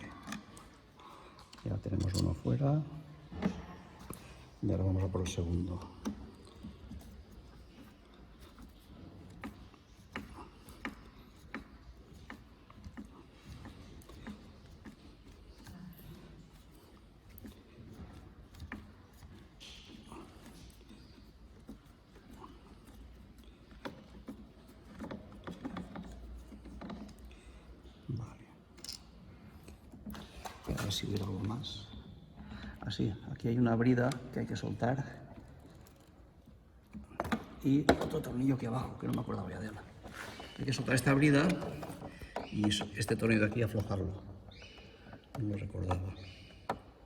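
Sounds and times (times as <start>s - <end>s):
hand tools clicking and tapping: 0.0s - 28.1s, 33.8s - 47.0s.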